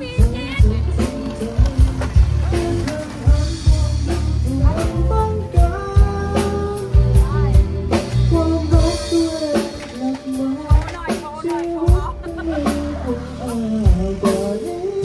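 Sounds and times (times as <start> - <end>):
song with singing drums and bass: 0.0 - 15.0.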